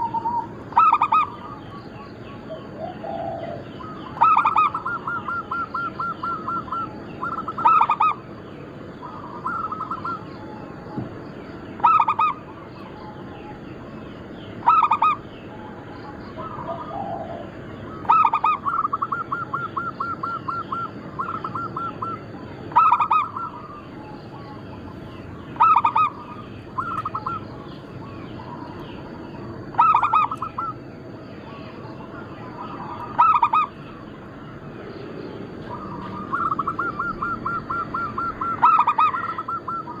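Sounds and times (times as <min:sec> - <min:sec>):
doves cooing: 0:00.0 - 0:40.0
faint high whine: 0:00.0 - 0:40.0.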